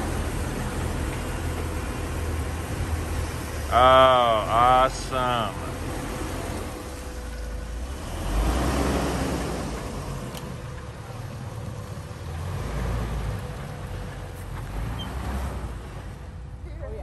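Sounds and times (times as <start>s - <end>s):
car engine driving through snow: 0.0s - 16.5s.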